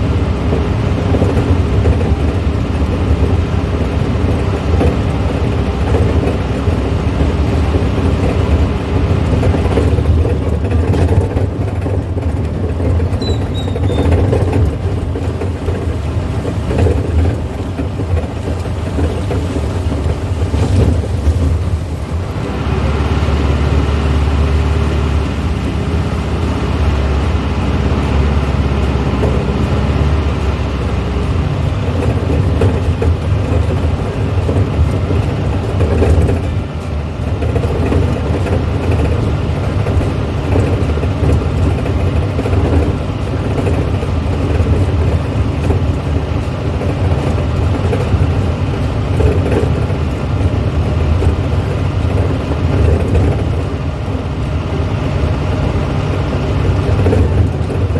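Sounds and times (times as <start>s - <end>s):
car engine running: 0.0s - 57.9s
road noise: 0.0s - 57.9s.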